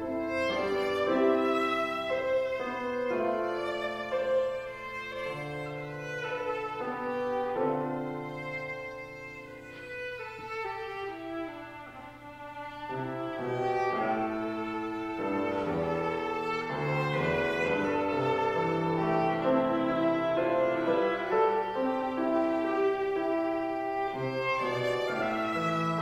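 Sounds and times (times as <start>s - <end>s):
piano accompaniment: 0.0s - 26.0s
viola long held notes: 0.0s - 26.0s.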